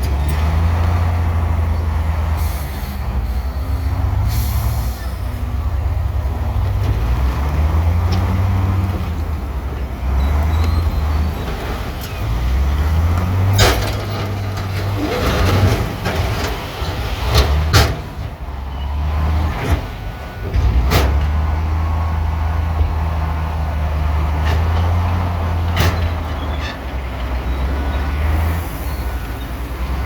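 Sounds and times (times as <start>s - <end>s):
diesel machinery engine running: 0.0s - 30.0s.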